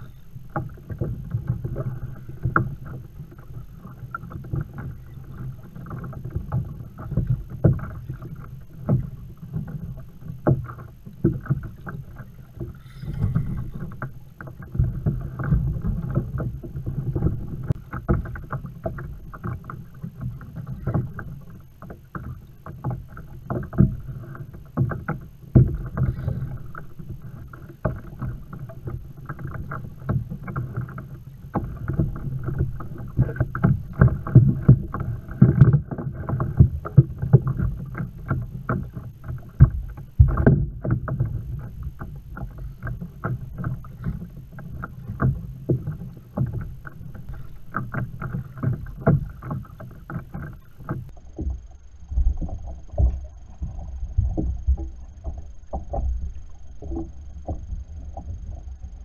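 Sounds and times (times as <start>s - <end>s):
water slapping kayak hull: 0.0s - 59.0s.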